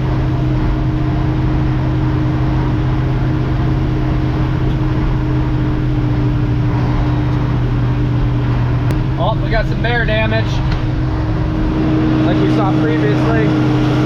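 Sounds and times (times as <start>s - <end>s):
truck diesel engine droning: 0.0s - 14.0s.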